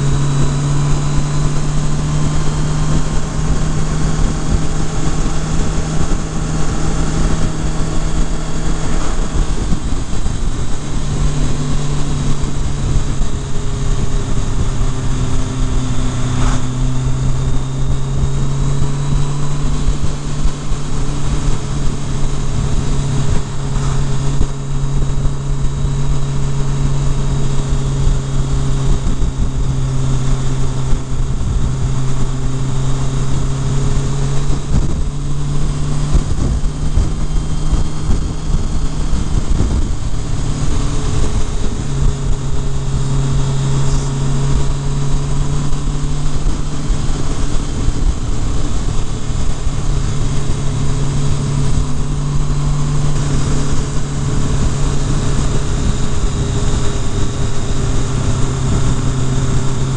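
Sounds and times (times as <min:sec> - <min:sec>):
motorcycle engine cruising: 0:00.0 - 0:59.9
wind rush over microphone: 0:00.0 - 0:59.9.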